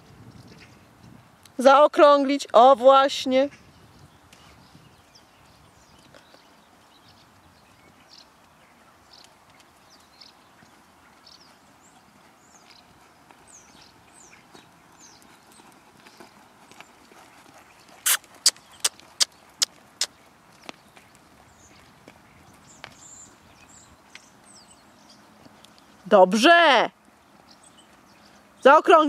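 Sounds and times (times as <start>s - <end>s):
horse hoofbeats on sand: 4.2s - 29.0s.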